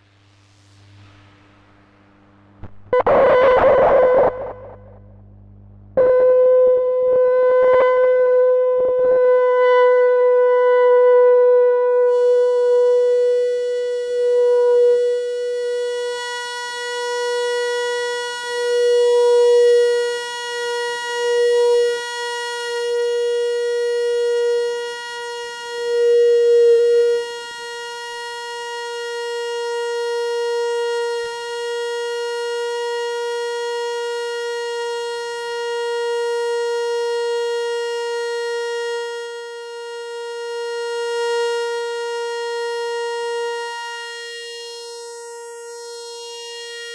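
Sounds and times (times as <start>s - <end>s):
buzzy electronic tone: 0.0s - 46.9s.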